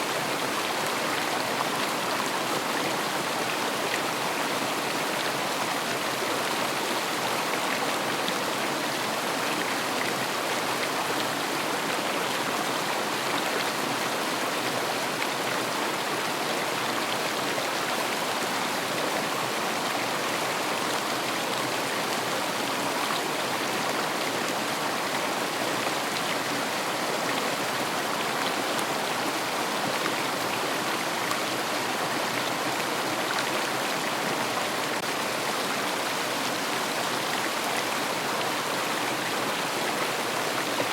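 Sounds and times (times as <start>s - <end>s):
river flowing over stones: 0.0s - 40.9s.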